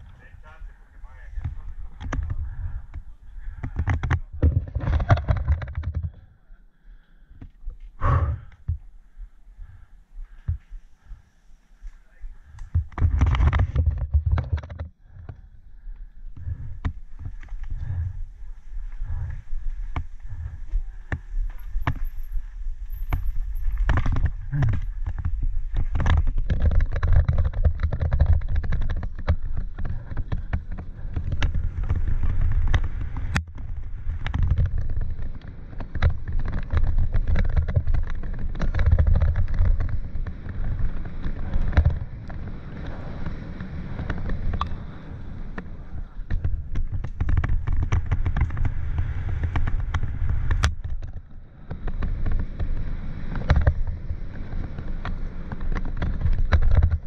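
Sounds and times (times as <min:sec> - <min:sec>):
bike rattling over bumps: 0:00.0 - 0:57.0
tyres on dirt: 0:00.0 - 0:57.0
wind buffeting microphone: 0:00.0 - 0:57.0.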